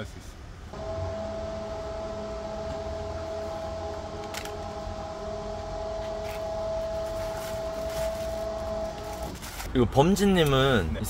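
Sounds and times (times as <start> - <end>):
electric motor whine and hum: 0.8 - 9.7.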